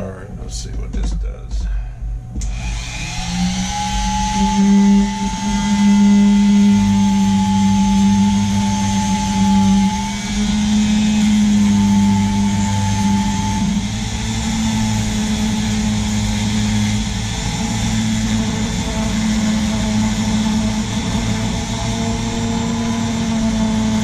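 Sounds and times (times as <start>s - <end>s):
rotary tool sanding: 2.4s - 24.0s.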